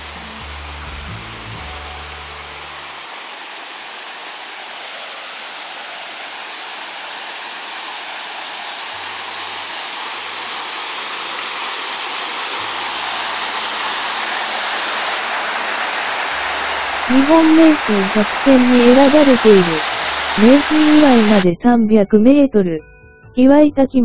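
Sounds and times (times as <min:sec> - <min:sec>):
rushing water: 0:00.0 - 0:21.4.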